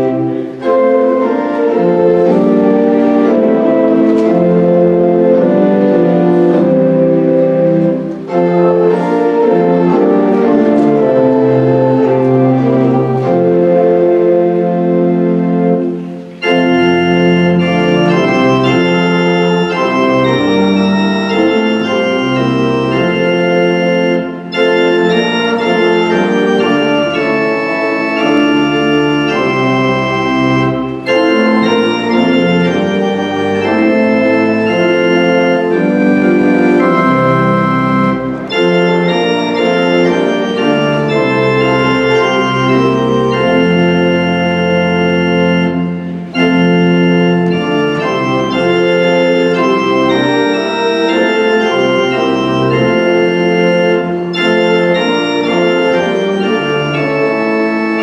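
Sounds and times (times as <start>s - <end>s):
church organ playing a hymn: 0.0s - 58.0s.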